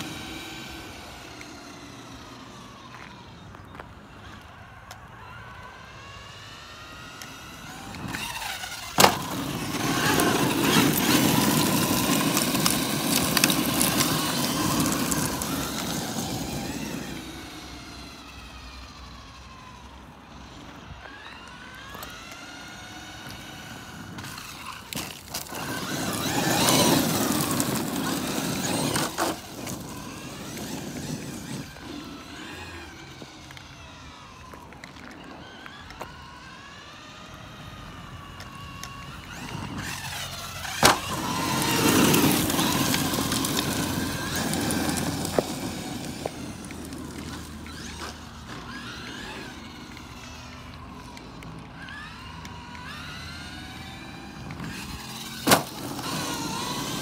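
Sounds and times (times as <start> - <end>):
toy truck motor whine: 0.0 - 57.0
tyre noise: 6.4 - 19.6, 20.3 - 57.0.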